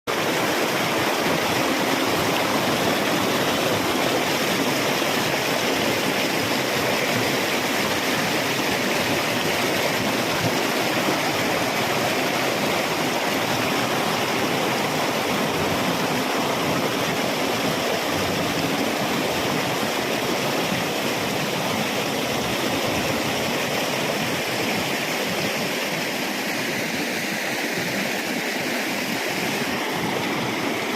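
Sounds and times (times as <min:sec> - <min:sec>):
flowing water: 0:00.1 - 0:30.9.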